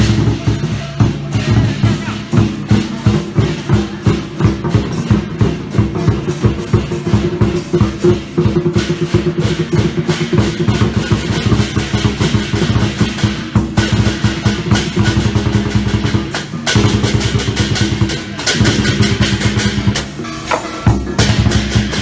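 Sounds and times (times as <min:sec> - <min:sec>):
barrel drum beating fast: 0:00.0 - 0:22.0
crashing cymbals: 0:00.0 - 0:22.0.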